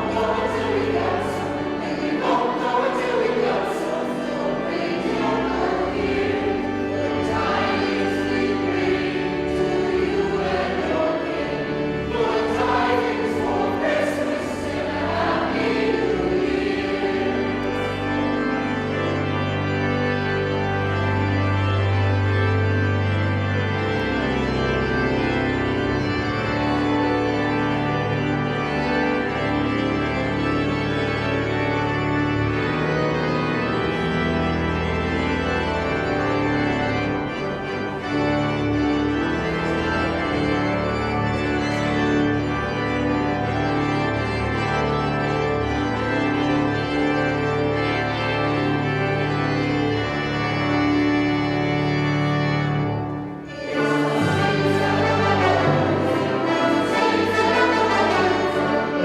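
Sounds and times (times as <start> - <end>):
organ playing chords: 0.0 - 59.0.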